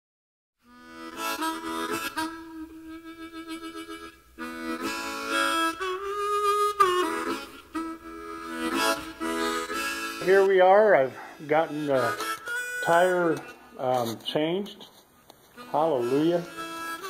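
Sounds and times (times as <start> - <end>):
bluesy harmonica playing: 0.6 - 17.0.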